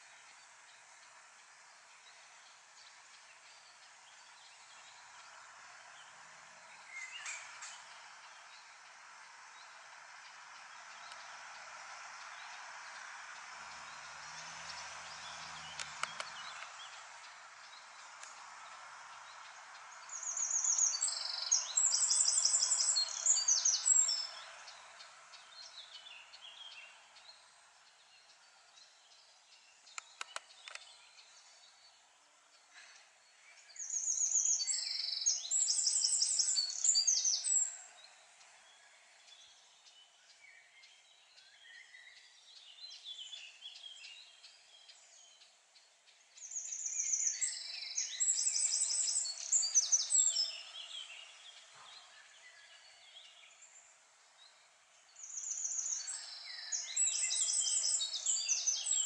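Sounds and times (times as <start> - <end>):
faint steady background noise: 0.0 - 59.0
songbird singing rapid notes: 0.0 - 59.0.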